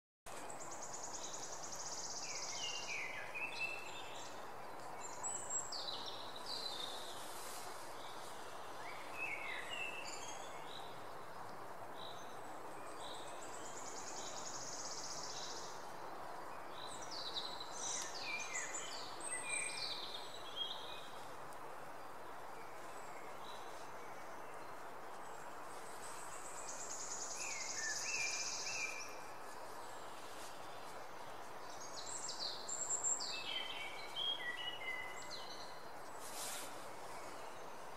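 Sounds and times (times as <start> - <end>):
outdoor background hiss: 0.3 - 37.9
songbirds singing: 0.3 - 37.9.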